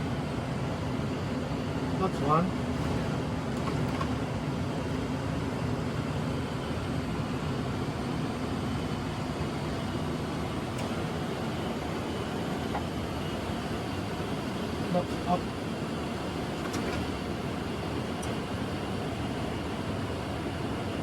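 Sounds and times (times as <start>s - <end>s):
cabin airflow noise: 0.0s - 21.0s
low aircraft drone: 0.0s - 21.0s.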